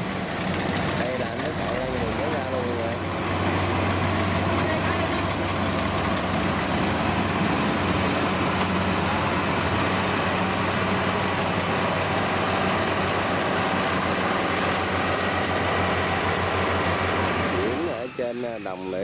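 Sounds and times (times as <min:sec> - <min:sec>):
tractor engine running: 0:00.0 - 0:18.6.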